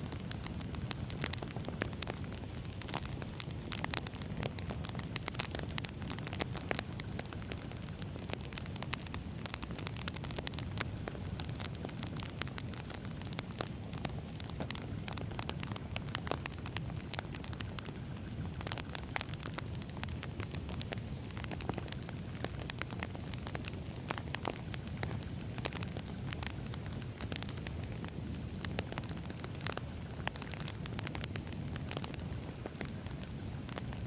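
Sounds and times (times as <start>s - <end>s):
firewood crackling: 0.0s - 34.0s.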